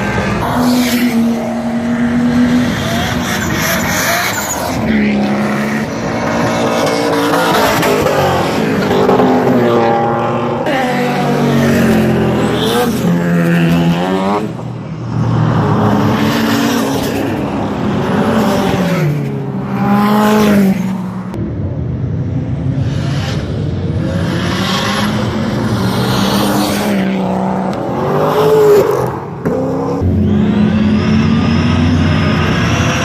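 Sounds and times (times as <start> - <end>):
racing cars driving past: 0.0 - 33.0.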